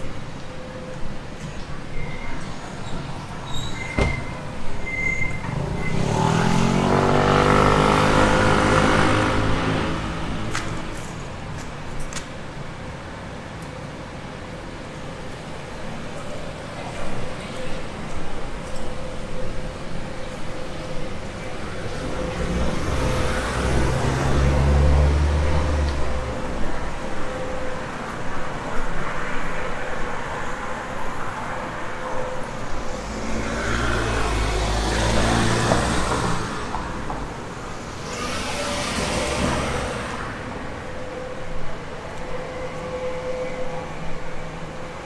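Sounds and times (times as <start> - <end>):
street noise: 0.0 - 45.0
cars passing: 1.4 - 13.4, 14.6 - 45.0.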